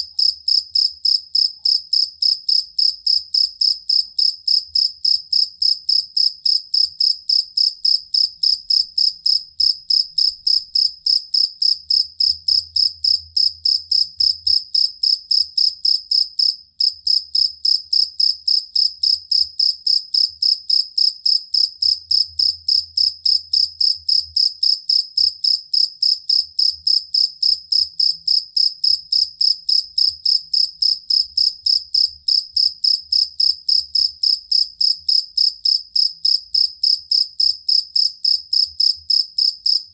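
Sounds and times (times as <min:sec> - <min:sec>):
field cricket chirping: 0:00.0 - 0:39.9.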